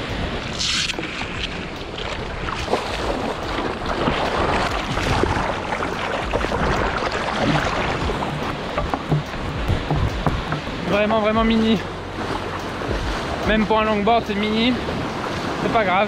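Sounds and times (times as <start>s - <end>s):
wind on microphone: 0.0s - 13.9s
water splashing around surfboard: 0.0s - 16.0s.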